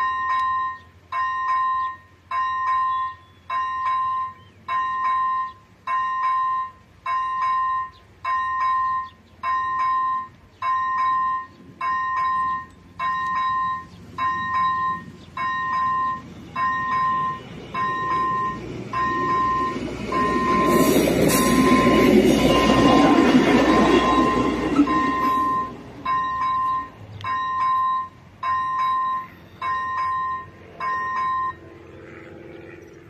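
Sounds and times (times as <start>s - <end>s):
level crossing warning bell: 0.0s - 31.8s
approaching diesel railcar rumble: 0.0s - 33.0s.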